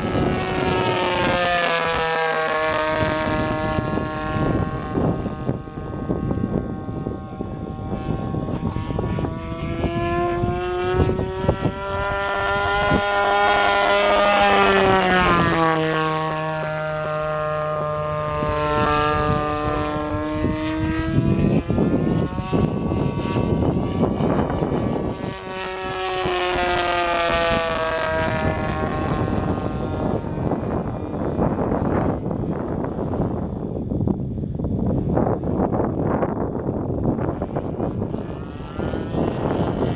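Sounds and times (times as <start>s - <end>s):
model plane engine buzzing: 0.0s - 39.9s.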